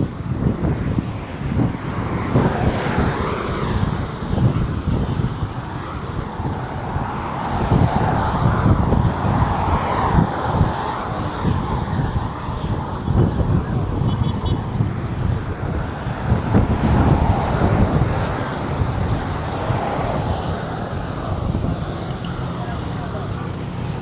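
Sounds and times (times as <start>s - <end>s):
road traffic passing: 0.0s - 24.0s
wind buffeting microphone: 0.0s - 24.0s.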